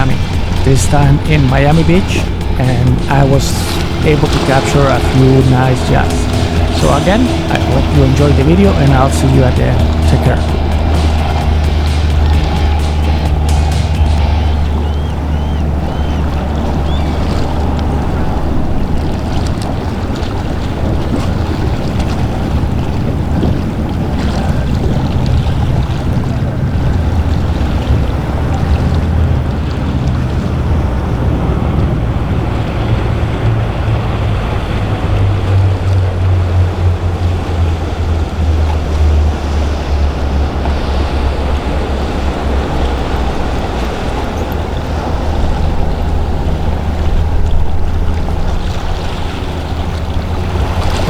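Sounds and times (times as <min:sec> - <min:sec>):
boat engines low rumble: 0:00.0 - 0:51.0
waves rushing: 0:00.0 - 0:51.0
wind on microphone: 0:00.0 - 0:51.0.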